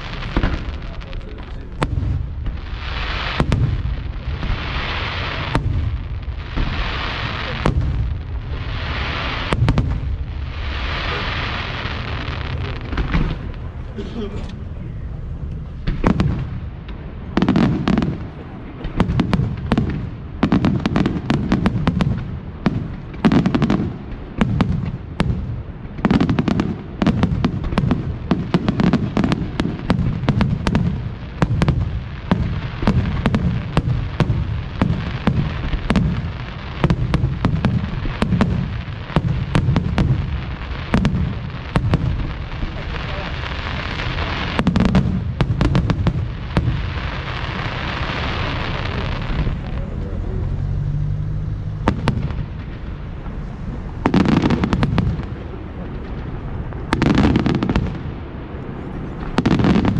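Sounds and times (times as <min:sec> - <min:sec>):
fireworks cracks and bangs: 0:00.0 - 0:51.0, 0:51.6 - 0:59.9
deep rumble of booms: 0:00.0 - 0:59.9.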